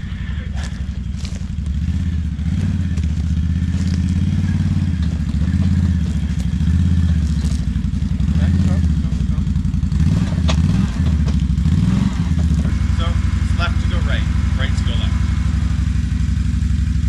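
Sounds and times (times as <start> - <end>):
quad engine running: 0.0 - 17.0.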